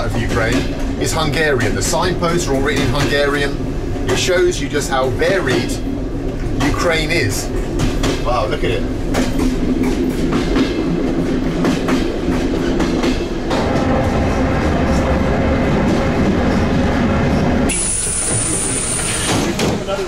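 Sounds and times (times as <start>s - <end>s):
train rumble and hum: 0.0s - 20.0s
higher steady hum: 0.2s - 19.0s.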